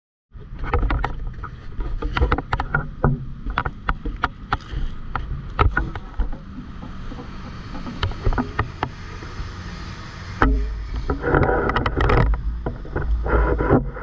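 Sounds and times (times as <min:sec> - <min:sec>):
steady low rumble: 0:00.4 - 0:14.0.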